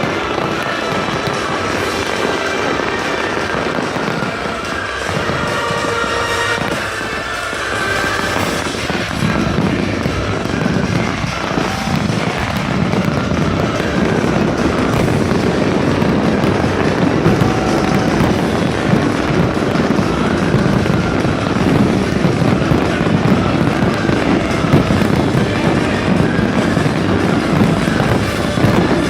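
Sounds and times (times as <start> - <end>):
fireworks crackling and rumbling: 0.0 - 29.0
music playing: 0.0 - 29.0.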